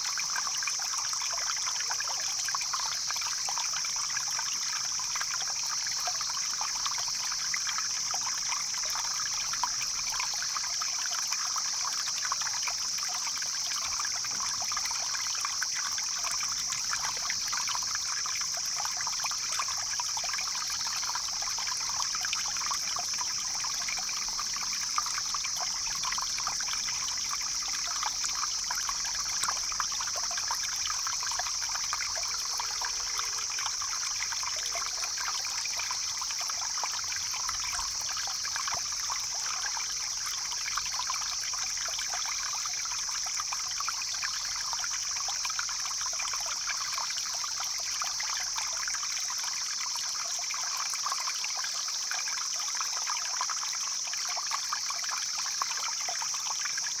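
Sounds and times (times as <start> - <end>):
high-pitched hiss: 0.0 - 50.2
stream trickling: 0.0 - 57.0.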